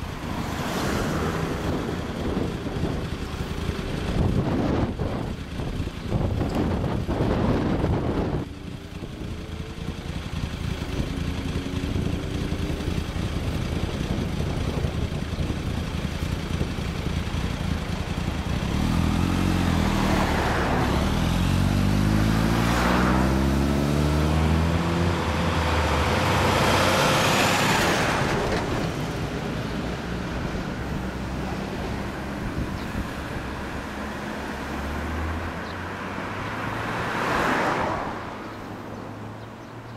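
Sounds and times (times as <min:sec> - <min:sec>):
motorcycle engine idling and accelerating: 0:00.0 - 0:39.9
traffic passing: 0:00.0 - 0:39.9.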